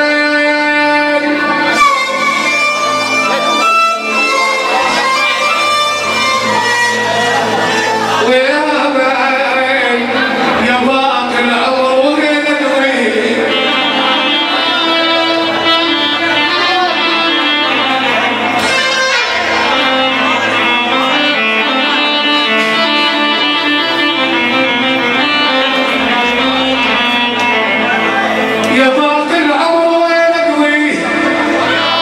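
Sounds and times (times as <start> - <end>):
bass line: 0.0 - 32.0
plucked string melody: 1.0 - 29.9.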